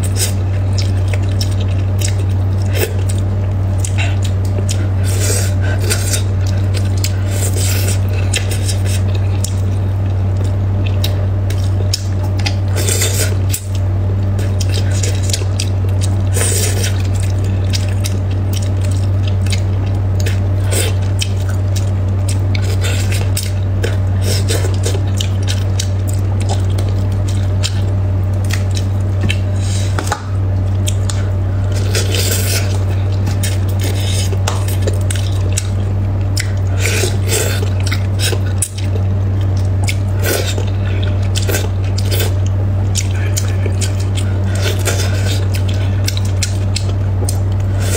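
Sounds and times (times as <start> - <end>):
person chewing: 0.0 - 47.9
steady low hum: 0.0 - 47.9.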